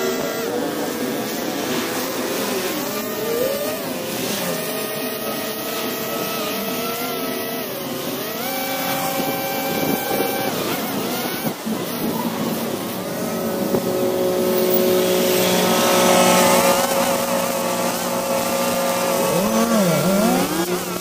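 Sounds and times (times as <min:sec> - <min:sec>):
string trimmer engine running: 0:00.0 - 0:21.0.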